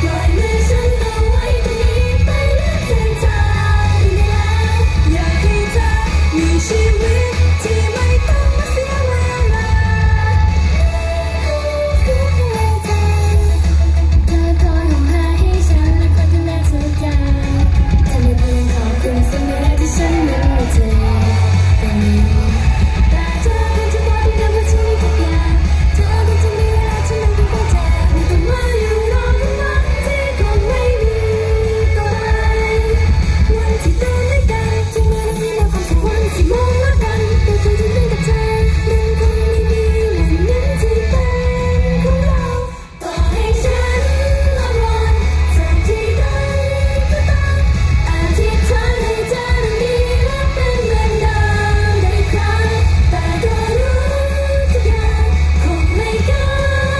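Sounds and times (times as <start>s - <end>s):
bass-heavy pop accompaniment: 0.0s - 56.9s
girl singing into a microphone: 0.0s - 56.9s.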